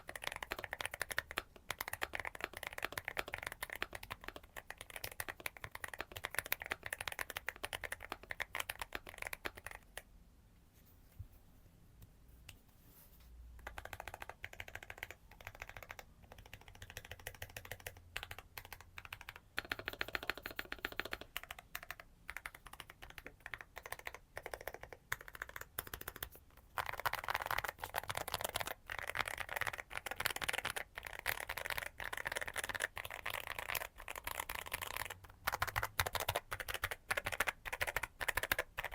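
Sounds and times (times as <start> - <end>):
typing on mechanical keyboard: 0.0 - 10.1, 13.6 - 38.9.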